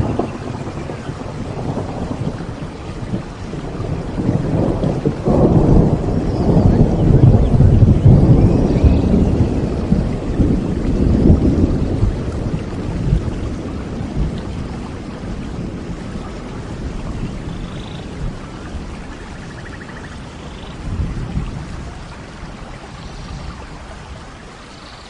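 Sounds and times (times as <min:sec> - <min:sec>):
rolling thunder: 0:00.0 - 0:24.4
steady rain: 0:00.0 - 0:25.0.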